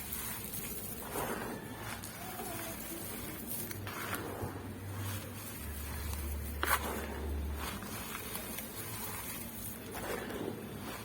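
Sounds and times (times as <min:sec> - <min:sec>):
powdered charcoal crunching: 0:00.0 - 0:11.0.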